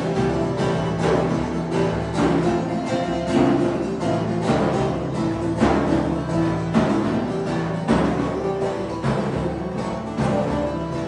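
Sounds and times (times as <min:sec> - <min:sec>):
acoustic guitar strummed: 0:00.0 - 0:11.0
long-necked lute plucked: 0:00.0 - 0:11.0.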